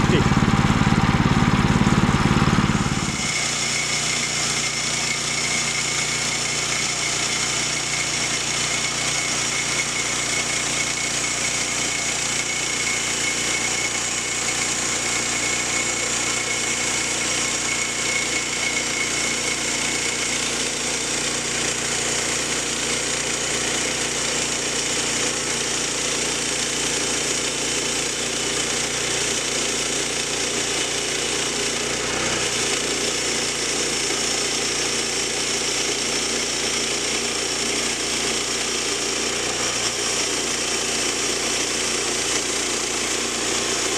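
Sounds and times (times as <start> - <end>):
bandsaw mill engine running: 0.0 - 43.9.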